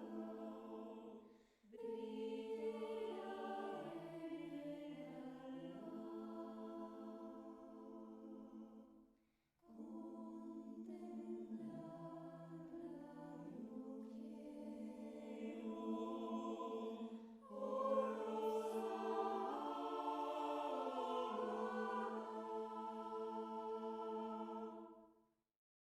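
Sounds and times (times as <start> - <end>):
choir singing sustained chords: 0.0 - 9.0, 9.6 - 25.1.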